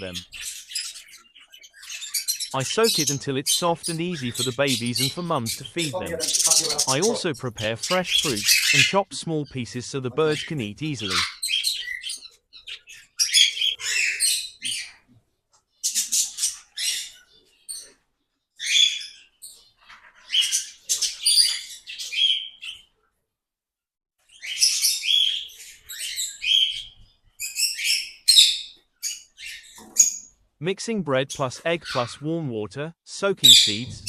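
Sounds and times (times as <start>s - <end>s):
small birds chirping and twittering: 0.0s - 23.0s, 24.2s - 34.0s.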